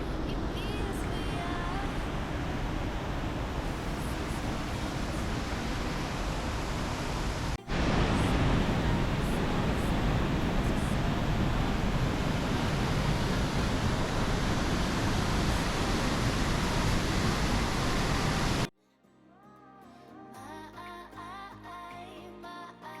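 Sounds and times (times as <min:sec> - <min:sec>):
waterfall rushing: 0:00.0 - 0:18.7
faint music: 0:00.0 - 0:23.0.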